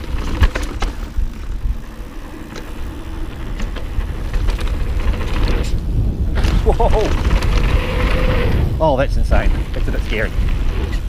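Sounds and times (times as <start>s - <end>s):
bike clicks and rattles: 0.0s - 11.0s
tyre noise on dirt: 0.0s - 11.0s
wind buffeting microphone: 0.0s - 11.0s.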